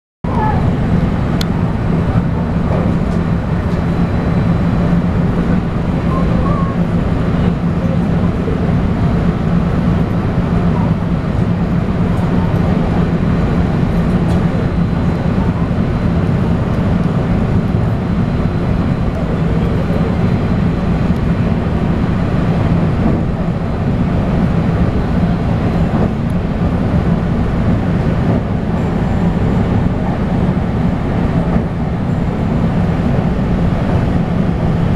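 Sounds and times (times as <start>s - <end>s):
train running hum and rumble: 0.2s - 34.9s.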